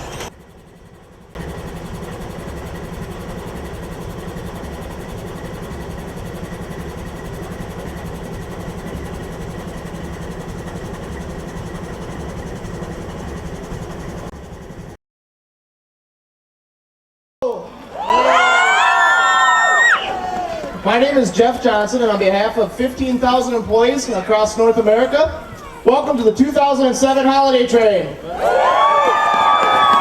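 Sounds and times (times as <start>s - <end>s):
diesel locomotive engine idling: 0.0s - 15.0s, 17.5s - 30.0s.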